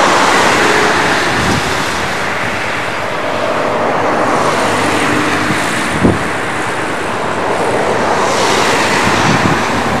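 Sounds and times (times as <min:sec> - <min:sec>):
train wheels rushing on rails: 0:00.0 - 0:10.0.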